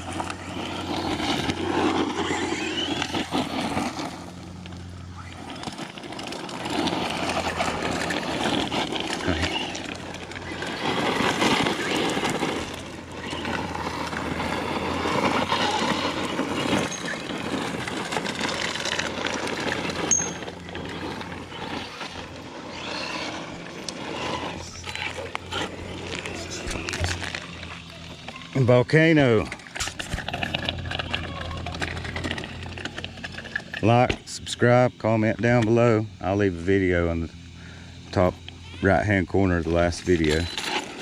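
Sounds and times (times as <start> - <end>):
rc truck motor and tyres: 0.0 - 41.0.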